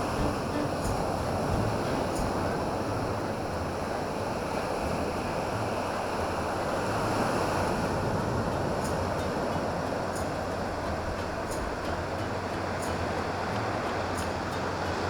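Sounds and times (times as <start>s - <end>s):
wind over microphone: 0.0s - 15.0s.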